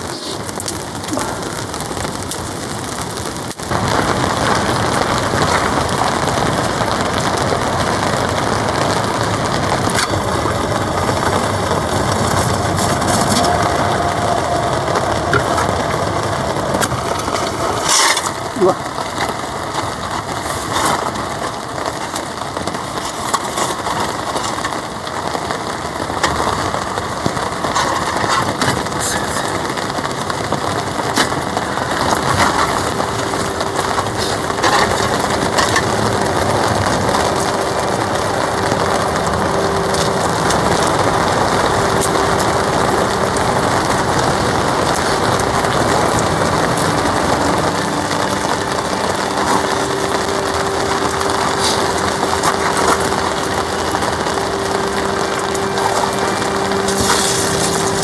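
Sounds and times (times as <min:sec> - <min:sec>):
heavy rain drumming on a tarp: 0:00.0 - 0:58.0
steady hum: 0:03.6 - 0:58.0.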